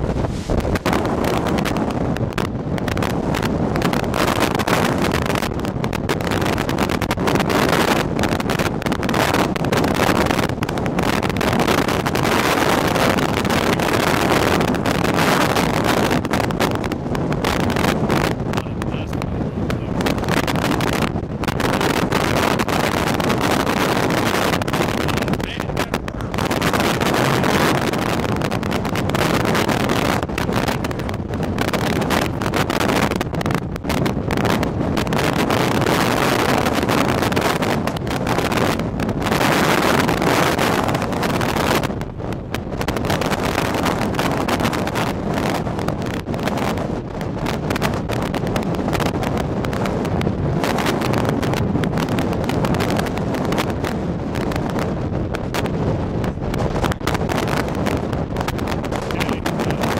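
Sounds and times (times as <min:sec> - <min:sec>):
wind buffeting microphone: 0:00.0 - 0:59.9
sharp crackles and taps: 0:00.6 - 0:59.9.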